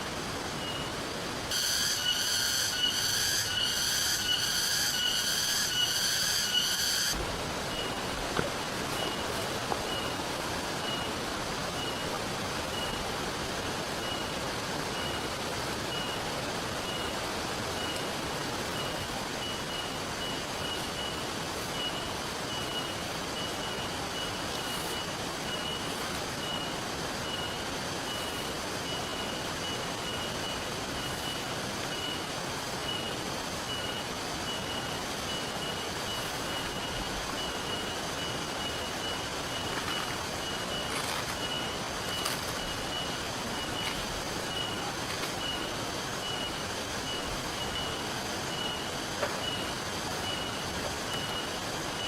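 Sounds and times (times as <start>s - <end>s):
steady rain: 0.0s - 52.0s
flowing river water: 7.2s - 52.0s.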